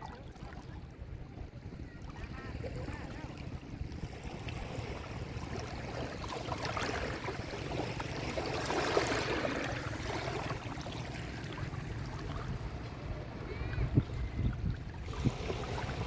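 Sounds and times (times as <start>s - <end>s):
sea waves washing onto beach: 2.2s - 16.0s.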